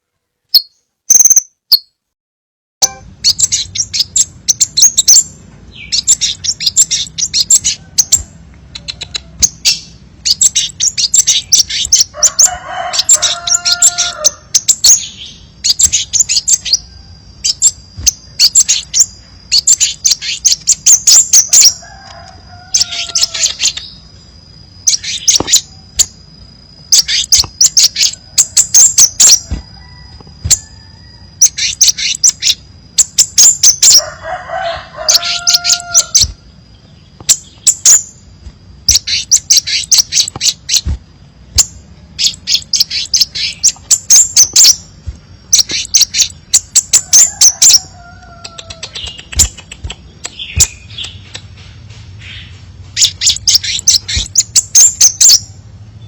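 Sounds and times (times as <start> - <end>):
bird chipping trills: 0.5 - 2.0, 2.8 - 51.6, 52.2 - 56.0
low multi-tone bird call: 2.8 - 40.9, 41.6 - 56.0.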